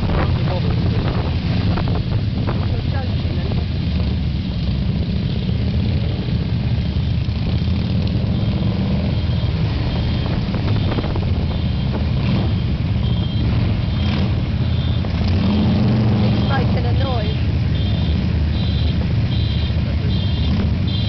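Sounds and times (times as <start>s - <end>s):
vehicle engines rumbling: 0.0s - 21.0s.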